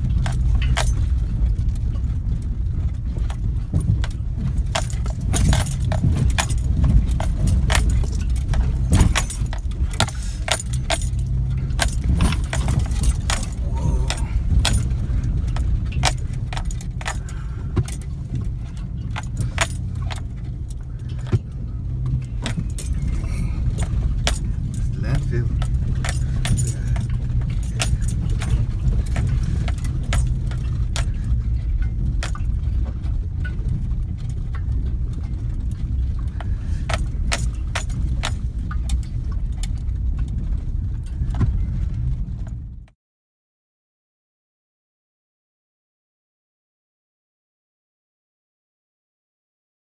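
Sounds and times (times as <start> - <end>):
metallic clicks and rattles: 0.0 - 41.7
vehicle engine humming: 0.0 - 42.9.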